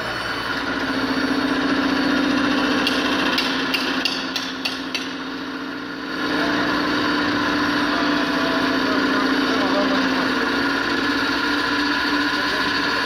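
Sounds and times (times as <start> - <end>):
machining equipment humming: 0.0 - 13.0.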